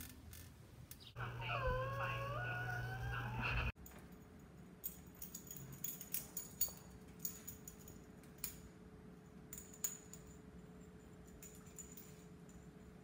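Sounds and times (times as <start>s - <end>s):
steady low hum: 0.8s - 13.0s.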